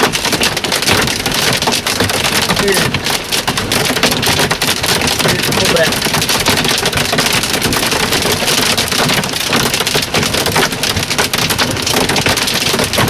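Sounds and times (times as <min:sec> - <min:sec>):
rain and hail on truck roof: 0:00.0 - 0:13.0.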